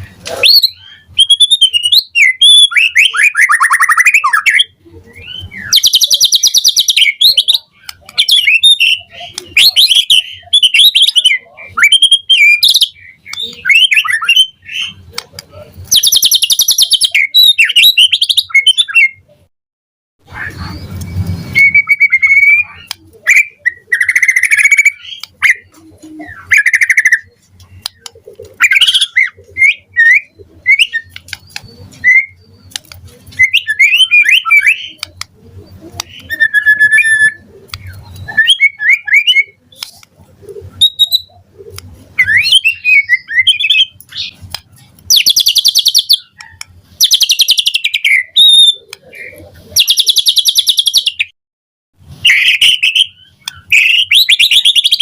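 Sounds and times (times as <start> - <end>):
harsh buzzy bird phrases: 0.0 - 19.5, 20.2 - 51.3
bird singing whistled notes and trills: 0.3 - 15.2, 15.8 - 19.4, 20.3 - 39.9, 40.6 - 44.5, 45.1 - 51.3, 52.2 - 55.0.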